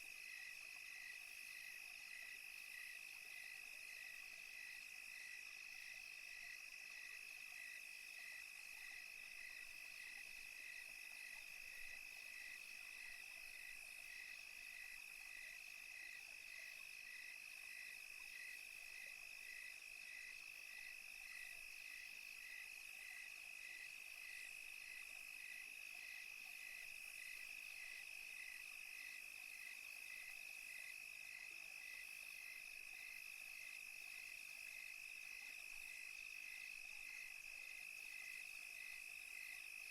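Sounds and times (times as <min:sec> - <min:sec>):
insect chirping in slow pulse: 0:00.0 - 0:39.9.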